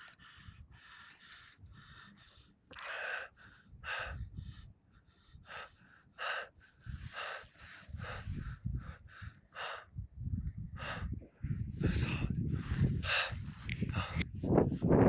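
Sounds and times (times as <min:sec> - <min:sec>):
person breathing heavily: 0:00.0 - 0:14.6.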